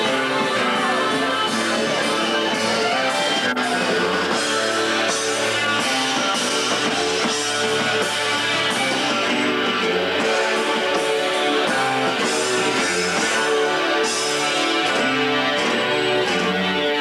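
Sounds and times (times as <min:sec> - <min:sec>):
drum kit beat: 0:00.0 - 0:17.0
electric lead guitar: 0:00.0 - 0:17.0
strummed acoustic guitar: 0:00.0 - 0:17.0.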